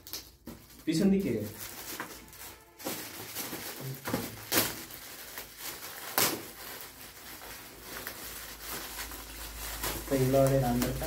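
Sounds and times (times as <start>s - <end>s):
gift-wrap paper crinkling: 0.0s - 11.0s.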